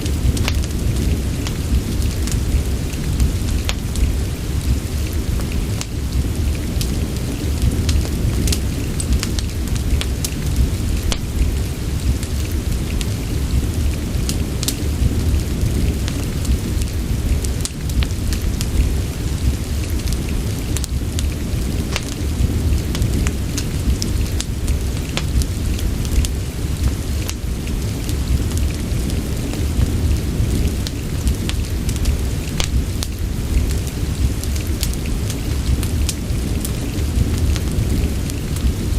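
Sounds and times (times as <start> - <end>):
fireplace crackling: 0.0 - 38.9
steady rain: 0.0 - 38.9.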